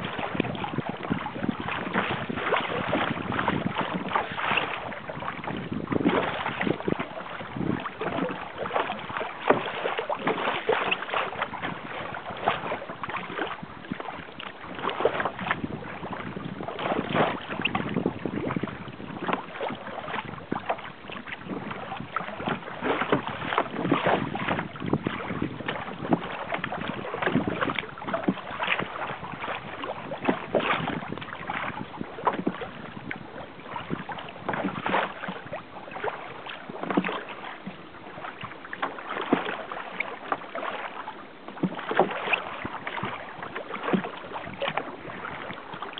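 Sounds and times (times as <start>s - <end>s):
wind buffeting microphone: 0.0s - 38.7s, 41.5s - 45.9s
water splashing against hull: 0.0s - 45.9s.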